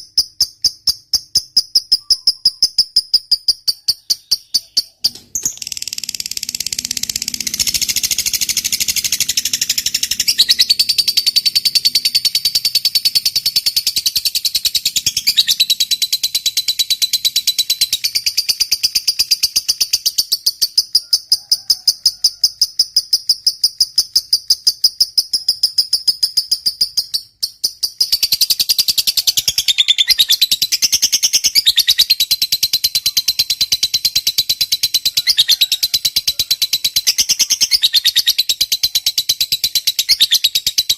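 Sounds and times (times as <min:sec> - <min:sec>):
lovebird chattering trill: 0:00.0 - 0:21.3, 0:22.0 - 0:40.9.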